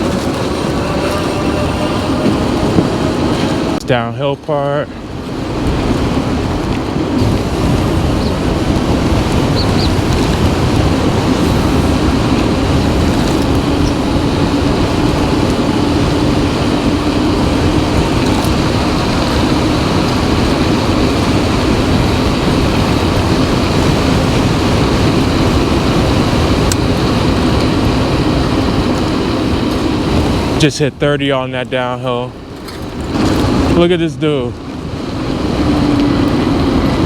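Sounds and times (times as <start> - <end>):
road noise: 0.0 - 37.0
wind rush over microphone: 0.0 - 37.0.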